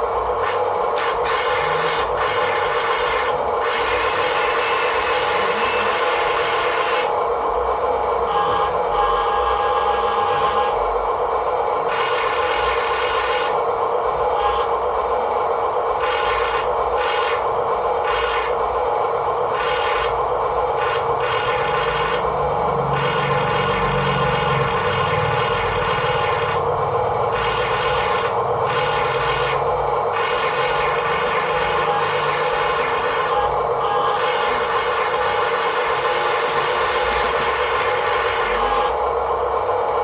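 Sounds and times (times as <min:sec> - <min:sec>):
small electric motor whining: 0:00.0 - 0:07.2, 0:08.1 - 0:11.1, 0:11.8 - 0:14.9, 0:15.9 - 0:18.8, 0:19.4 - 0:39.1.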